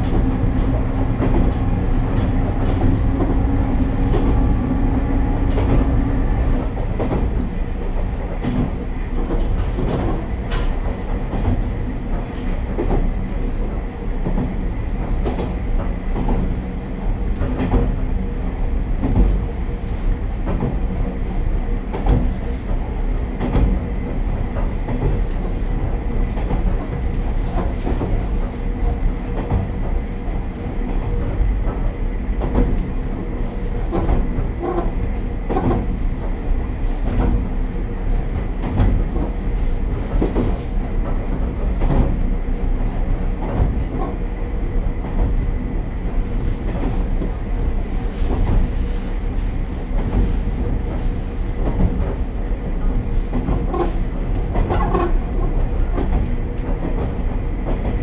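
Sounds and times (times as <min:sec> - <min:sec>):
railcar diesel engine droning: 0:00.0 - 0:58.0.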